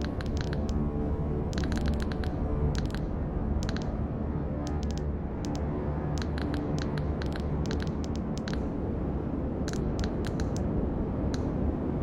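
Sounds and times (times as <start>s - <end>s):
dense low drone: 0.0s - 12.0s.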